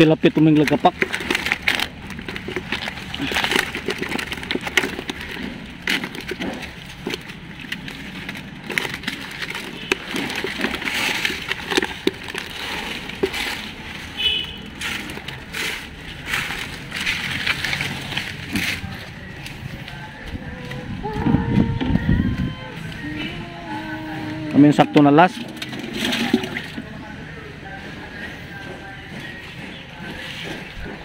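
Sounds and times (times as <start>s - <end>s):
hands rummaging through wet leaves: 0.0s - 27.0s.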